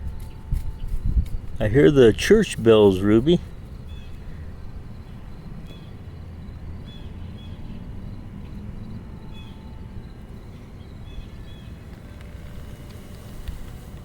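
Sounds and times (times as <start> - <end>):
faint high chirps: 0.0 - 14.0.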